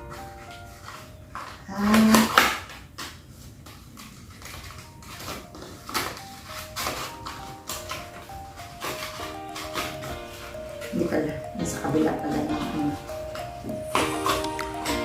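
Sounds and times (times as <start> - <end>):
packaging knocking and scraping: 0.0 - 15.0.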